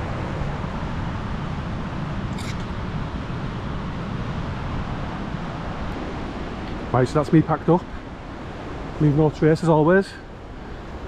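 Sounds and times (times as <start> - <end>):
storm wind through pines: 0.0 - 11.0.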